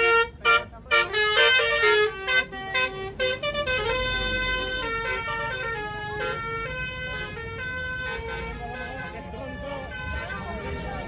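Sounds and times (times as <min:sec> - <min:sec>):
bus horn playing a tune: 0:00.0 - 0:11.0.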